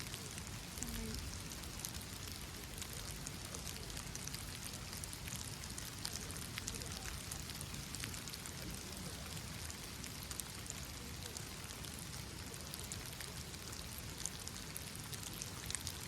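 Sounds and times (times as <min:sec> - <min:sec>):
rain hiss: 0:00.0 - 0:16.0
raindrops ticking: 0:00.0 - 0:16.0.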